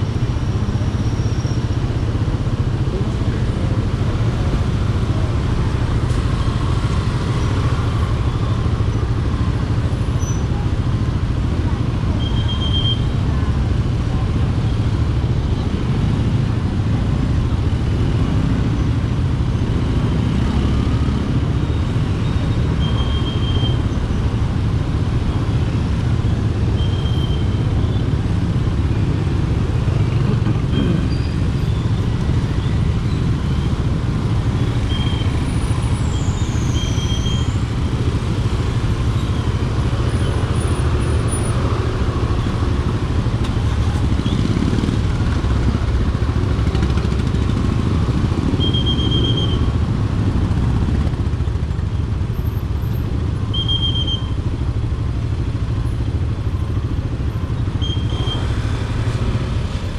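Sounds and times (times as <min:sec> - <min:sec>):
other engines running: 0:00.0 - 0:53.5.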